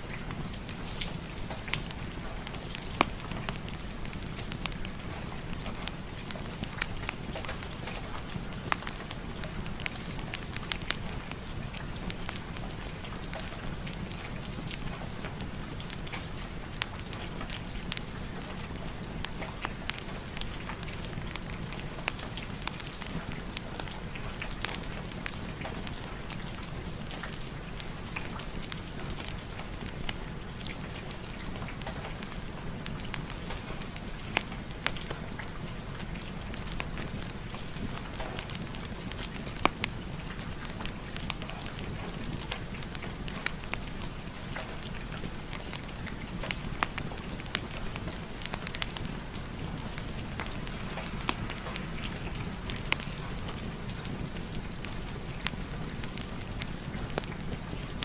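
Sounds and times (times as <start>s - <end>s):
fireplace fire crackling: 0.0s - 58.0s
steady rain: 0.0s - 58.0s.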